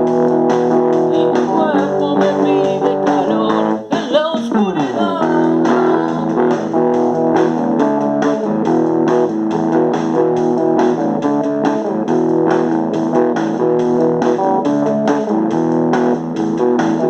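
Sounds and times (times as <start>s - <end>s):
bass guitar: 0.0s - 17.0s
strummed electric guitar: 0.0s - 17.0s.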